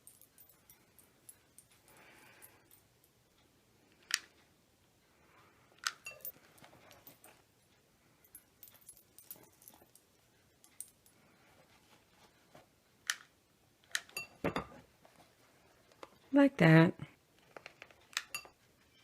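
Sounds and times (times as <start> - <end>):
soft rustle of material: 0.0 - 19.0.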